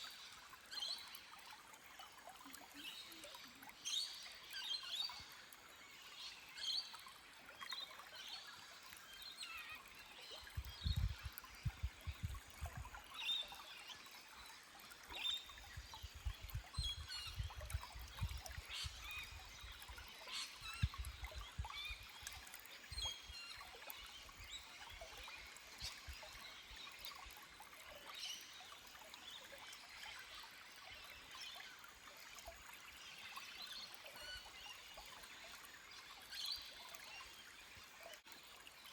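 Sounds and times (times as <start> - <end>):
stream trickling over rocks: 0.0 - 38.9.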